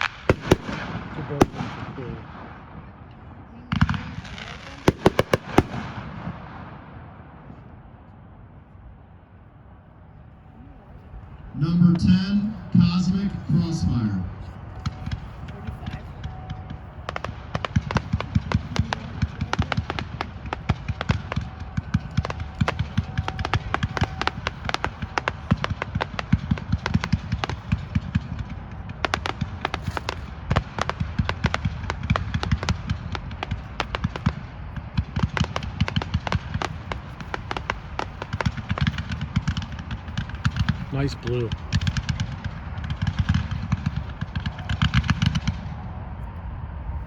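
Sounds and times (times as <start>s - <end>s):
firework barrage crackling: 0.0s - 7.1s, 11.9s - 46.3s.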